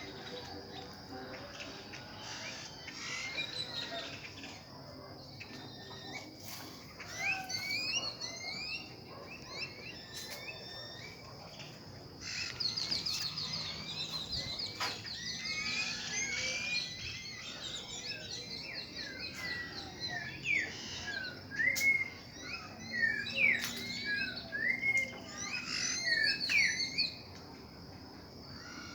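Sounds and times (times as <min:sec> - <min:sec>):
birds chirping and trilling: 0:00.0 - 0:28.9.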